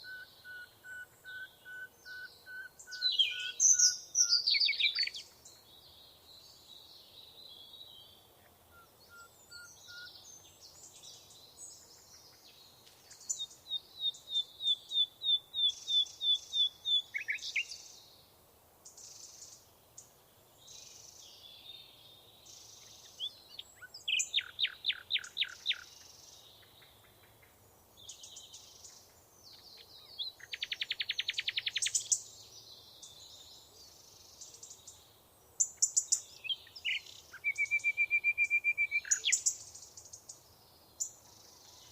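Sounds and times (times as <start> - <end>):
soft bird chirps: 0.0 - 41.9.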